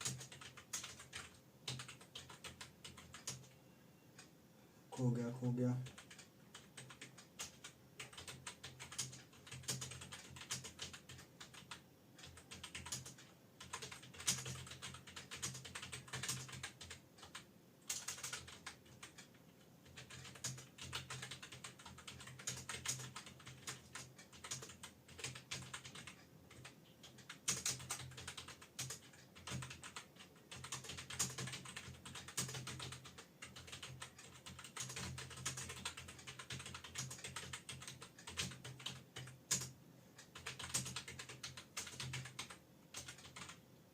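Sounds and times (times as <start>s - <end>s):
typing on keyboard: 0.0s - 3.6s, 5.6s - 43.6s.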